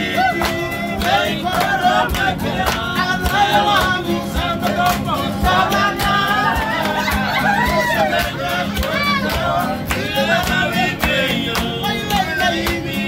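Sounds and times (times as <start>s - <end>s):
hand-clapping in time: 0.0s - 13.0s
men singing together: 0.0s - 13.0s
strummed acoustic guitars: 0.0s - 13.0s.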